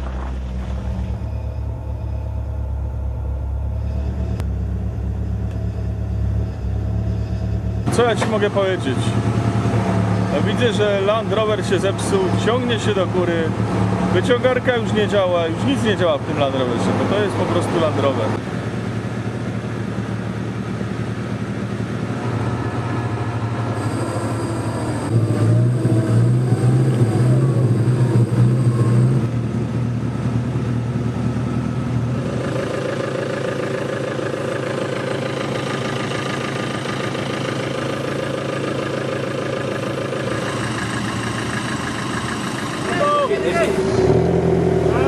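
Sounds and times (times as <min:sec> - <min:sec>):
steady mechanical whine: 0:00.0 - 0:44.2
off-road engine running under load: 0:00.0 - 0:45.0.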